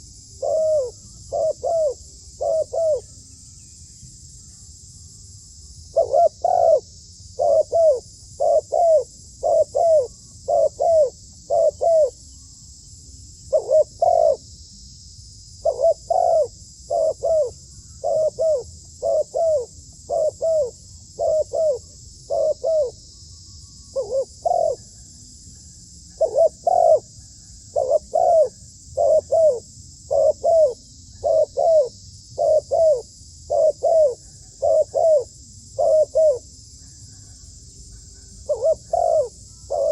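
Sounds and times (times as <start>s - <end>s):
dove cooing: 0.0s - 3.2s, 5.9s - 12.2s, 13.5s - 14.4s, 15.6s - 23.0s, 23.9s - 25.1s, 26.1s - 39.9s.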